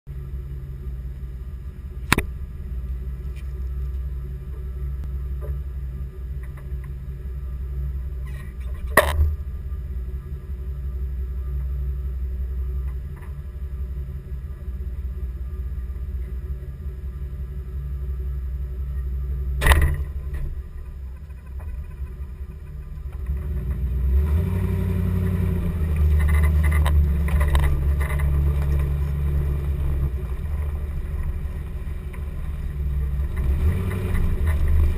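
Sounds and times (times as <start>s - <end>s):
off-road vehicle engine rumble: 0.0s - 34.9s.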